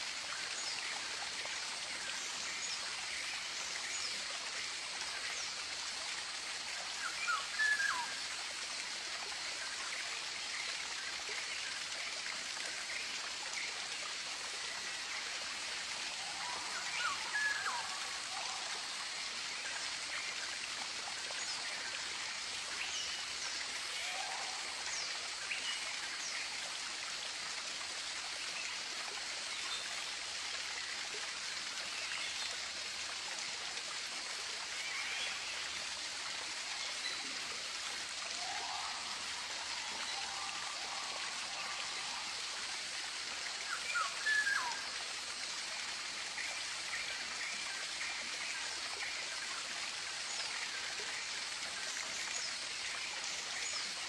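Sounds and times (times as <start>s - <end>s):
stream running water: 0.0s - 54.0s.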